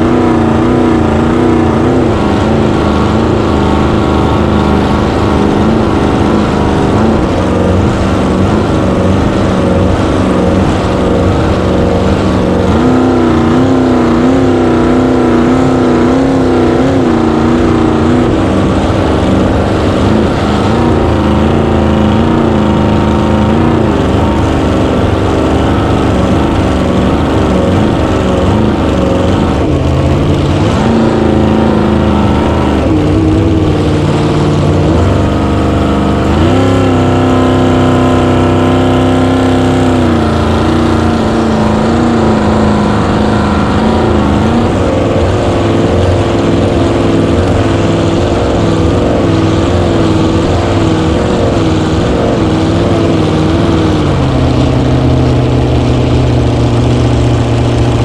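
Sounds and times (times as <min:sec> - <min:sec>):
boat engine running hard: 0:00.0 - 0:58.0.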